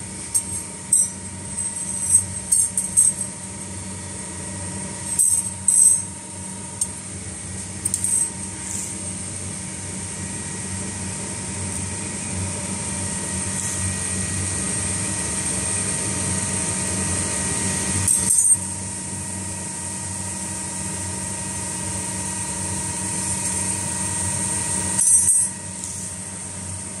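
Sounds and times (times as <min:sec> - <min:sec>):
welding machine humming: 0:00.0 - 0:27.0.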